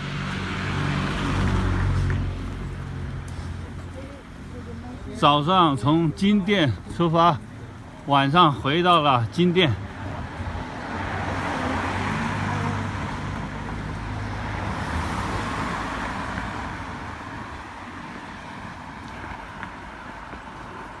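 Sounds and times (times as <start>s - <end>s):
traffic rumble: 0.0s - 21.0s
vehicle engine and tyre noise: 0.0s - 21.0s.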